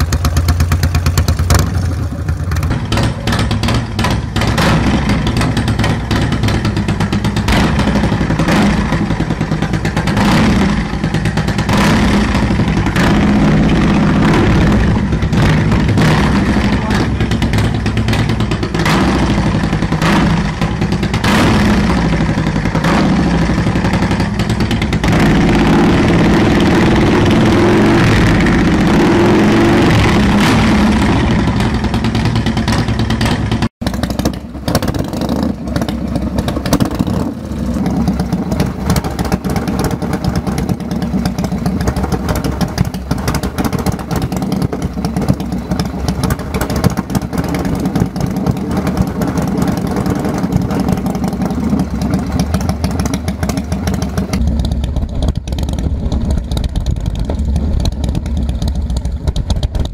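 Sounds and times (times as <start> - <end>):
exhaust bangs: 0.0 - 59.9
exhaust popping and crackling: 0.0 - 59.9
motorcycle engine revving: 0.0 - 59.9.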